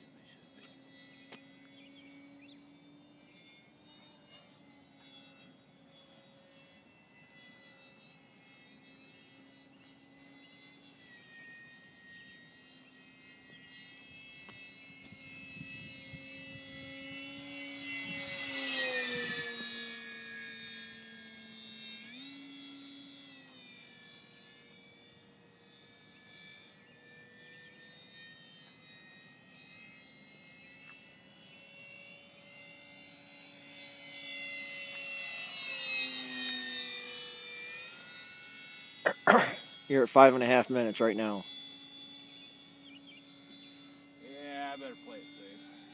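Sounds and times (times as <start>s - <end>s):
model plane motor whine: 0.0s - 45.9s.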